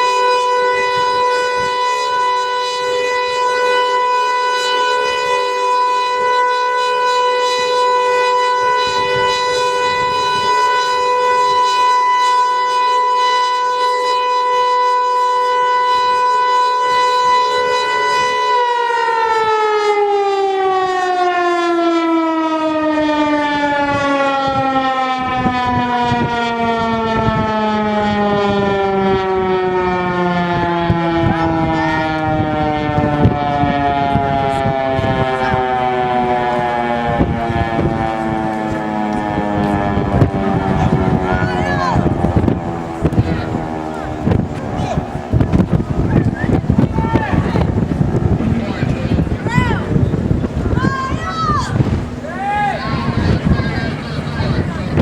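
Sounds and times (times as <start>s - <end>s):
warning siren winding down: 0.0s - 55.0s.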